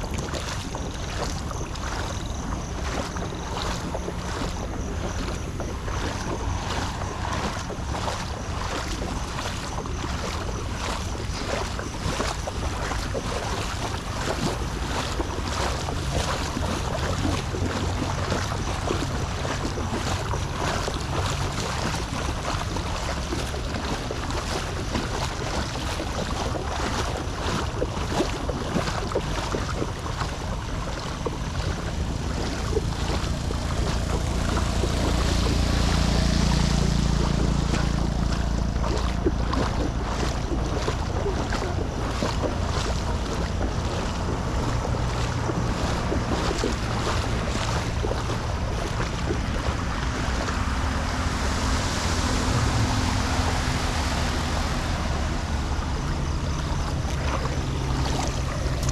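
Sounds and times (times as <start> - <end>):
floodwater rushing at a drain: 0.0 - 58.9.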